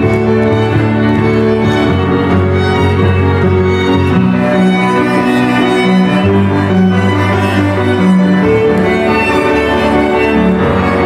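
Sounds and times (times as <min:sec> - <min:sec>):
cello long notes: 0:00.0 - 0:11.0
slow string music: 0:00.0 - 0:11.0.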